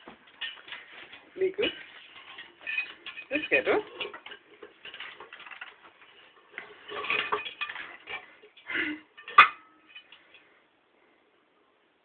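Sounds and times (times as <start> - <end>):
pots and dishes clattering: 0.0 - 10.5
claws scraping on metal pot: 0.4 - 10.5.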